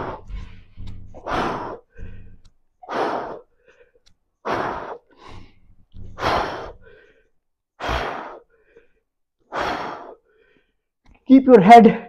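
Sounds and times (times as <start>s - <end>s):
faint breaths: 0.0s - 11.0s.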